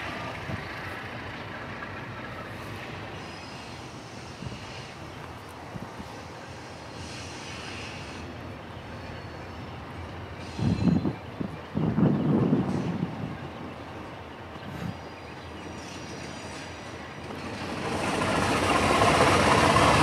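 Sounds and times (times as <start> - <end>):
locomotive diesel engine rumbling: 0.0 - 20.0.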